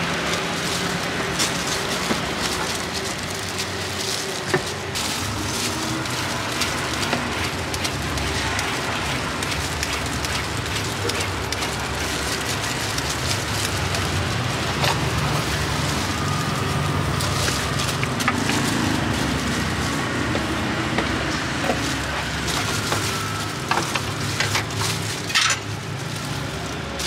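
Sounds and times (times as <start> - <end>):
peeler scraping carrot: 0.0 - 27.0.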